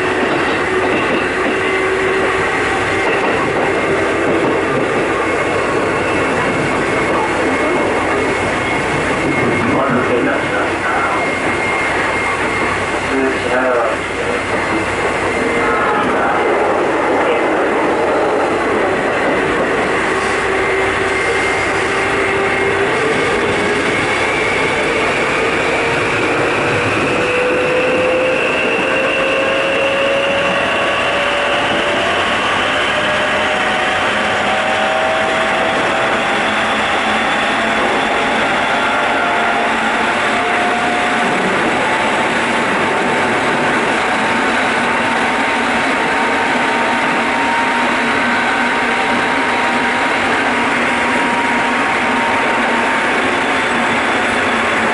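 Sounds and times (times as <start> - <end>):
train rumble: 0.0 - 54.9.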